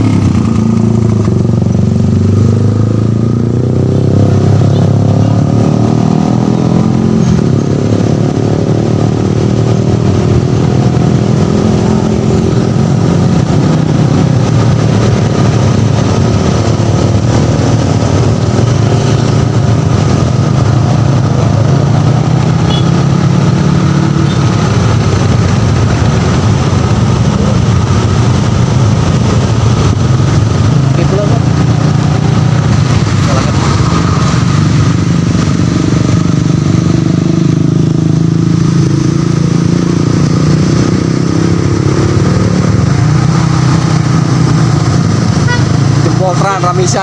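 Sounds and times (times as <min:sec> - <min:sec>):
motorcycle engines droning: 0:00.0 - 0:47.0.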